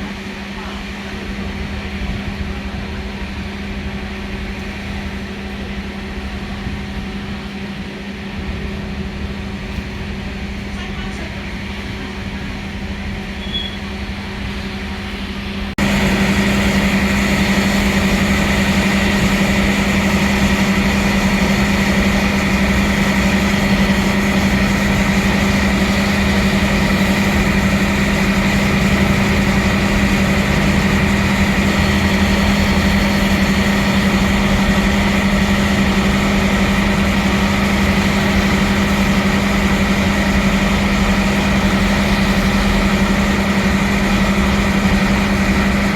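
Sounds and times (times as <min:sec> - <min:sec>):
train machinery hum: 0:00.0 - 0:45.9.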